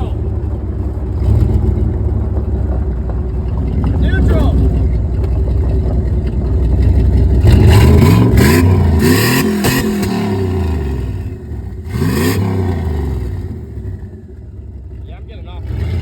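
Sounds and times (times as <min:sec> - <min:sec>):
pickup engine revving: 0:00.0 - 0:16.0.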